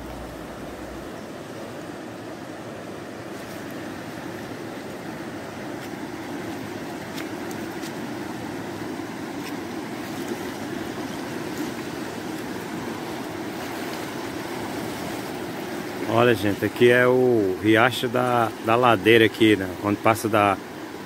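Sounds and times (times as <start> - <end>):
floodwater rushing over rocks: 0.0 - 21.0.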